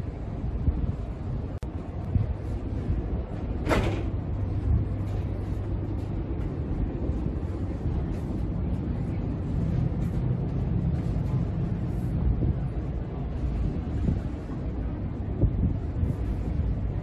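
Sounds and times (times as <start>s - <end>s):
ship machinery hum and rumble: 0.0s - 17.0s
wind buffeting microphone: 0.0s - 17.0s.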